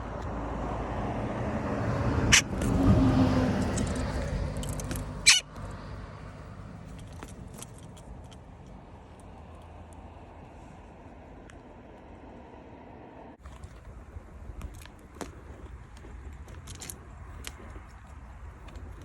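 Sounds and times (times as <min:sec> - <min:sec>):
motor vehicle passing: 0:00.0 - 0:19.0.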